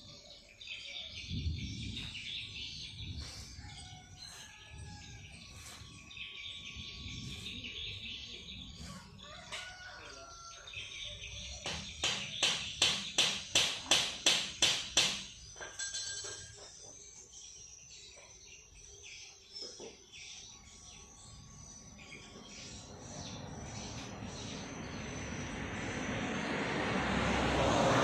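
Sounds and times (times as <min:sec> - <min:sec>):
songbirds calling: 0:00.0 - 0:26.6.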